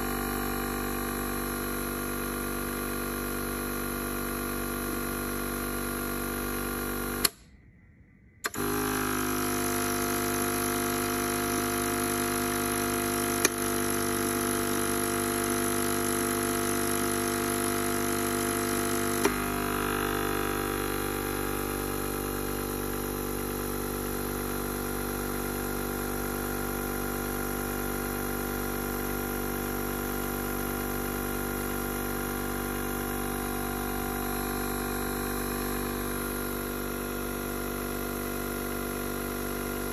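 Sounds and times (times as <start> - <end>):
compressor motor humming: 0.0 - 7.4, 8.4 - 39.9.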